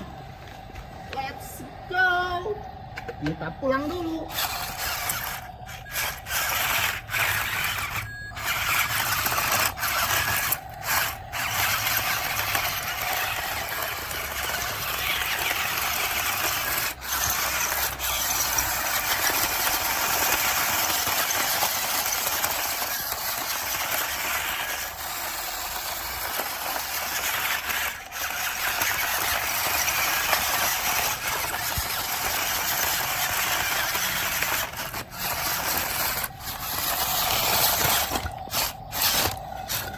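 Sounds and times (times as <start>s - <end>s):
electric motor and gearbox whining: 0.0s - 39.9s.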